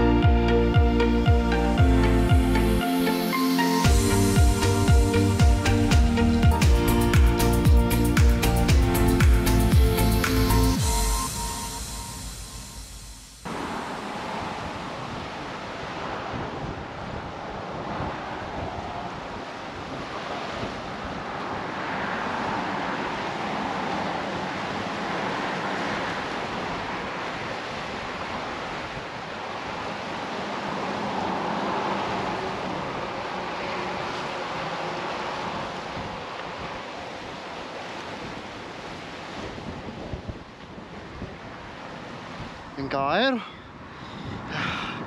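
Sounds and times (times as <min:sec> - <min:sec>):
sea water rushing: 0:00.0 - 0:45.0
wind on microphone: 0:03.8 - 0:42.8, 0:43.8 - 0:45.0.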